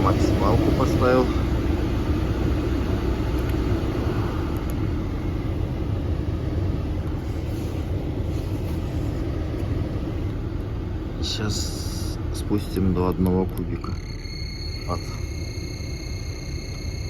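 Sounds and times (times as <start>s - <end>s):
heater blower fan rushing air: 0.0s - 17.0s.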